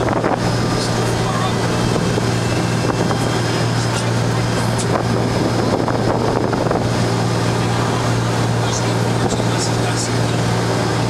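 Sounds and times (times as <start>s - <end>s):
motorboat engine humming: 0.0s - 11.0s
wind buffeting microphone: 0.0s - 11.0s.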